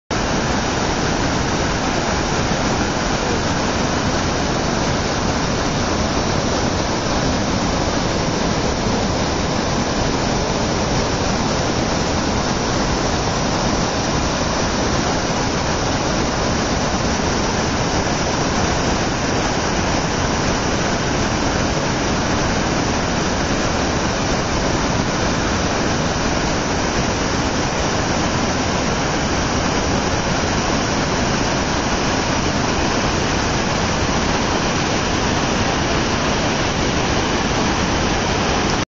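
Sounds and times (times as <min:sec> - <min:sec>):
water pouring over dam: 0:00.2 - 0:38.8.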